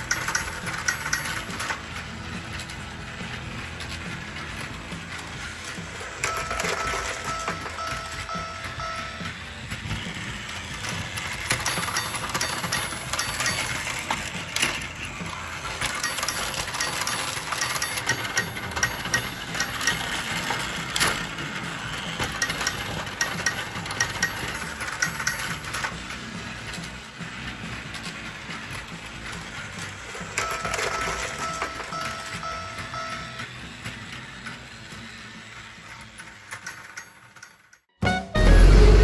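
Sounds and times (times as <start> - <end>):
plastic toy track clicking and rattling: 0.0 - 37.9
toy motors running: 0.0 - 37.9.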